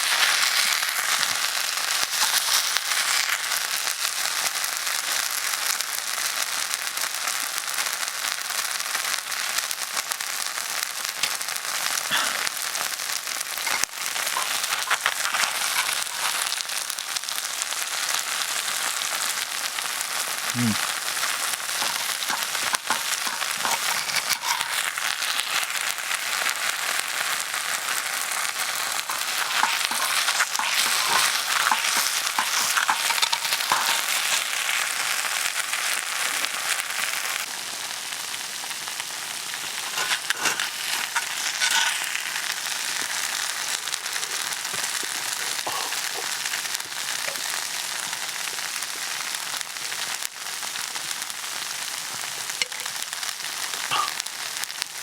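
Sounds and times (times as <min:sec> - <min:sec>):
food sizzling on a griddle: 0:00.0 - 0:55.0.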